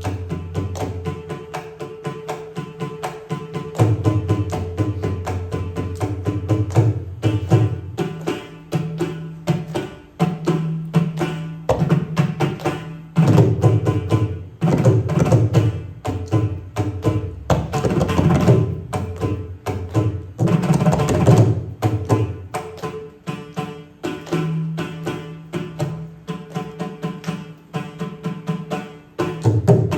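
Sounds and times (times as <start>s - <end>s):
fast hand drum strokes: 0.0s - 29.9s.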